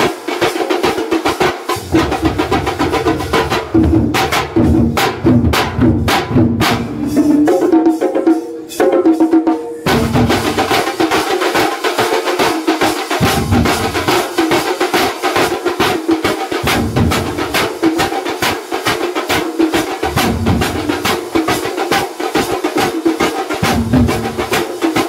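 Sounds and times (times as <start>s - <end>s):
large frame drums beaten with sticks: 0.0s - 25.0s
small hand drums: 0.0s - 25.0s.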